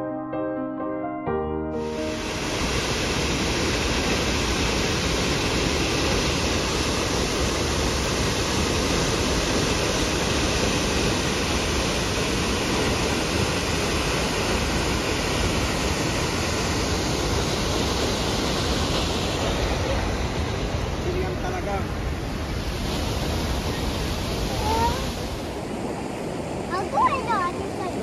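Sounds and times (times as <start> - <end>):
waterfall rushing: 1.8 - 28.0.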